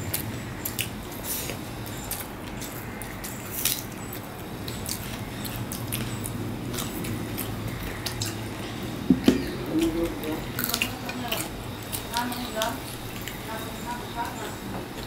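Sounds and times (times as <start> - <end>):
low steady hum: 0.0 - 15.0
wet chewing and lip-smacking: 0.0 - 15.0.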